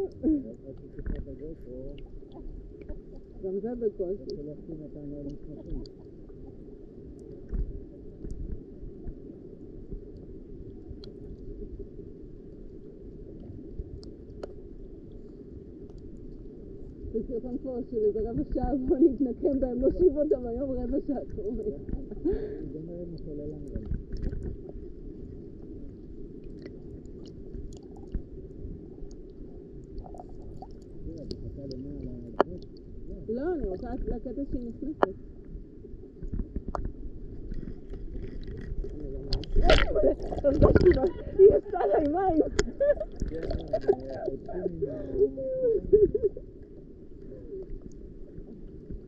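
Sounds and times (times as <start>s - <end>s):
muffled underwater rumble: 0.0s - 49.0s.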